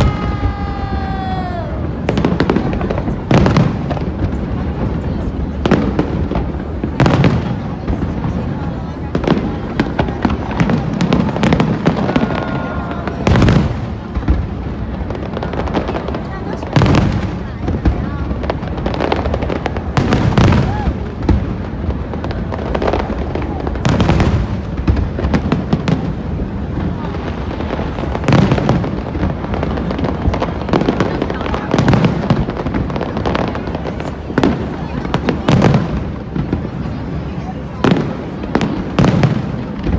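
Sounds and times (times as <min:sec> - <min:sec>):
fireworks cracking and popping: 0:00.0 - 0:39.9.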